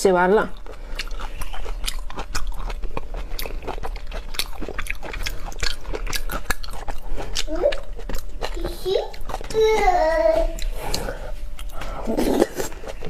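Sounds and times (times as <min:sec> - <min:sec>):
wet biting and chewing: 0:00.5 - 0:09.9, 0:10.5 - 0:13.0.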